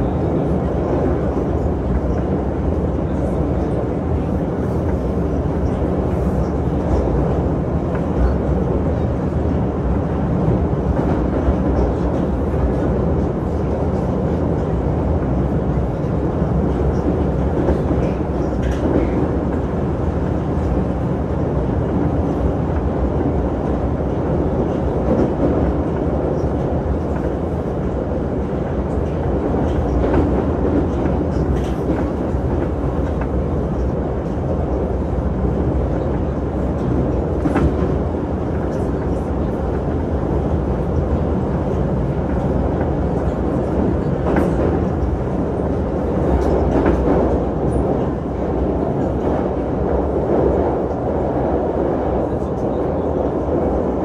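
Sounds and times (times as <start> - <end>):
metro train wheels rumbling: 0.0 - 54.0.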